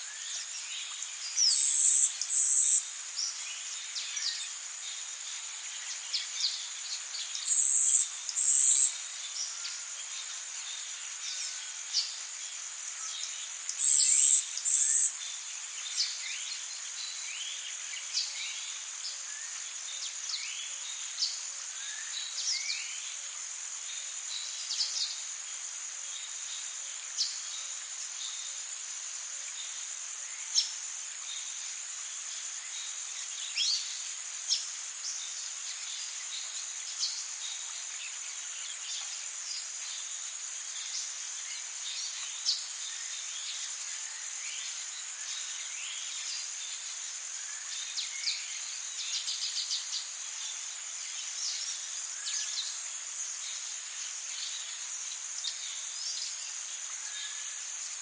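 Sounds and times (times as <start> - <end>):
high insect drone: 0.0 - 58.0
rain hiss: 0.0 - 58.0.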